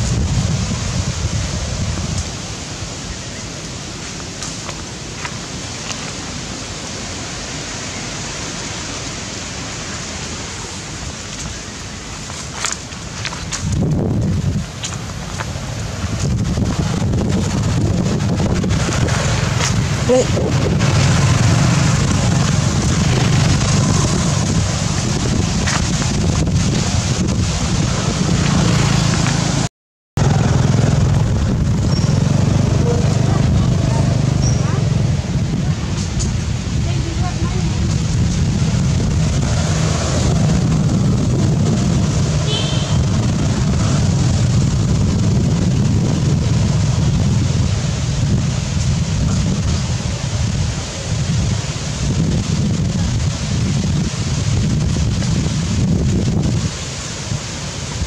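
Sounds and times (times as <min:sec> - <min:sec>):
outdoor background hiss: 0:00.0 - 0:58.0
road noise: 0:00.0 - 0:58.0
wind buffeting microphone: 0:00.0 - 0:58.0.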